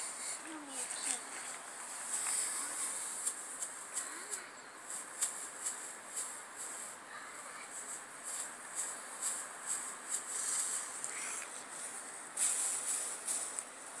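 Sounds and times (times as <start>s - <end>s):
toy rustling over dry grass: 0.0s - 14.0s.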